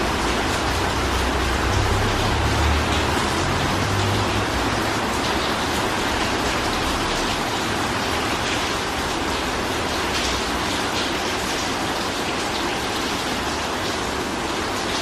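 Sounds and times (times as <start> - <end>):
rain splashing on wet tiles: 0.0 - 15.0.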